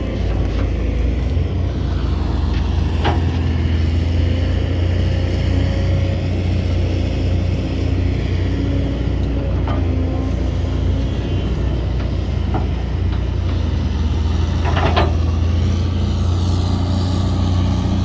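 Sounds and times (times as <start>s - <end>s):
heavy diesel engine rumbling: 0.0s - 18.0s.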